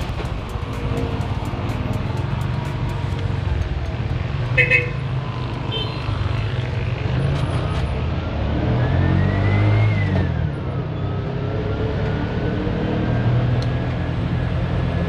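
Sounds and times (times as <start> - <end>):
auto-rickshaw engine whining: 0.0 - 15.0.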